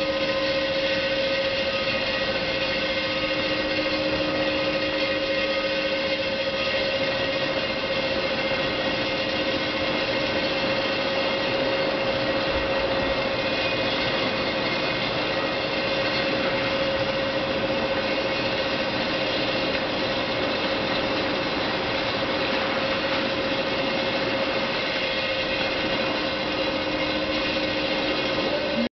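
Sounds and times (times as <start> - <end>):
constant mechanical hum: 0.0 - 28.9
industrial roaster running: 0.0 - 28.9.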